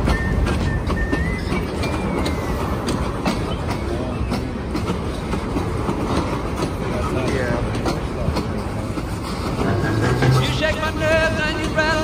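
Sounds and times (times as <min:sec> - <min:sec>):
freight train rumbling past: 0:00.0 - 0:12.0
wheels clicking over rail joints: 0:00.0 - 0:12.0.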